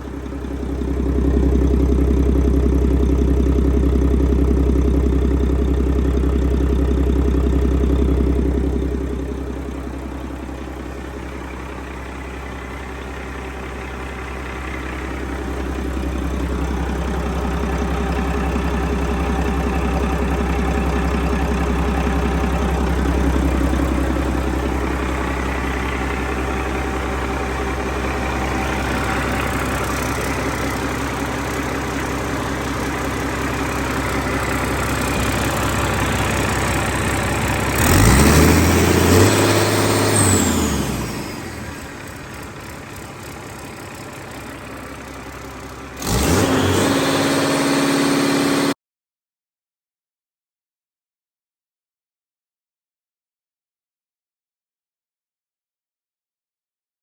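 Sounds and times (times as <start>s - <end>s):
diesel engine running: 0.0s - 48.8s.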